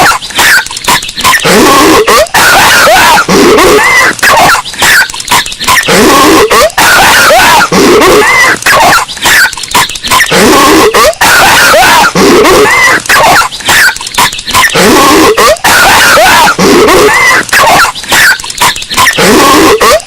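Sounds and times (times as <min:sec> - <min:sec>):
distorted cartoon coughing: 0:00.0 - 0:20.0.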